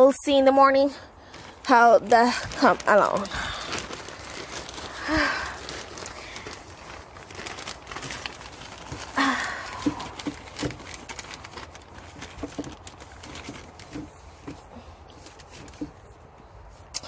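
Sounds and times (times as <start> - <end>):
plastic sheeting crinkling: 0.0 - 16.9.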